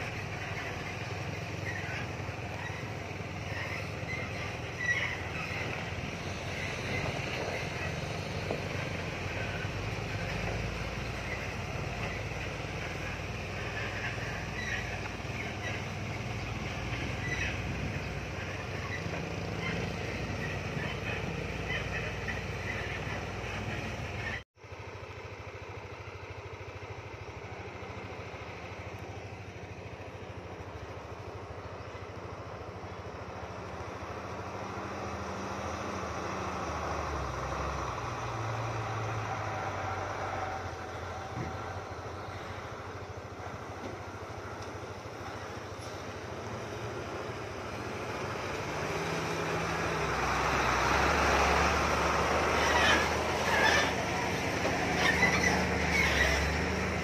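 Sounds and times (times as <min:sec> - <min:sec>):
diesel truck engine: 0:00.0 - 0:57.0
truck approaching: 0:00.0 - 0:57.0.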